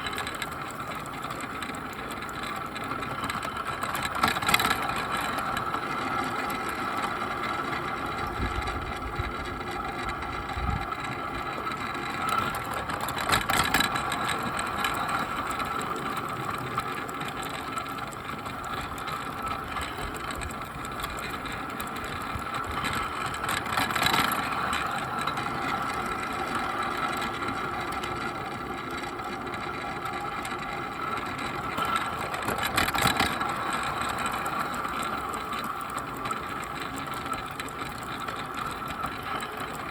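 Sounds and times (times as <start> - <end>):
model locomotive motor whine: 0.0 - 39.9
model locomotive rattling: 0.0 - 39.9.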